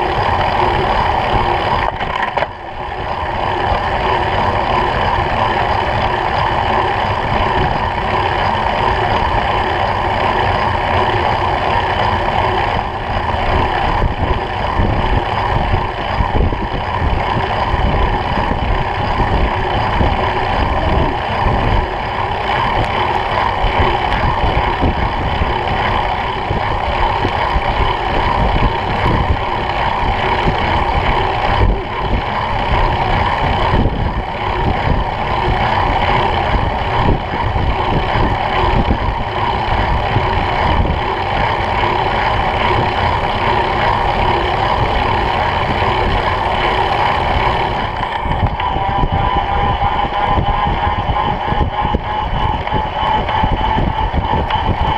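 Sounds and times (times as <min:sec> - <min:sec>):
road rumble from tyres: 0:00.0 - 0:54.9
wind buffeting microphone: 0:00.0 - 0:54.9.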